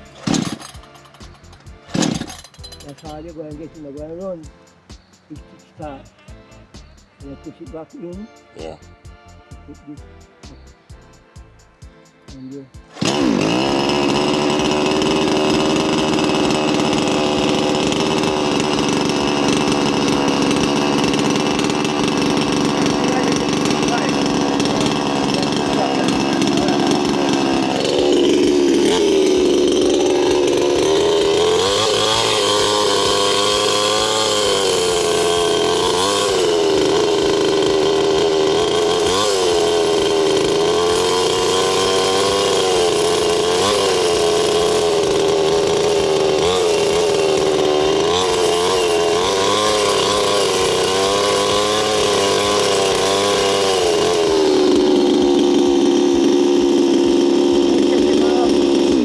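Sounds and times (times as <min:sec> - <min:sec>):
chainsaw engine revving: 0:00.0 - 0:59.0.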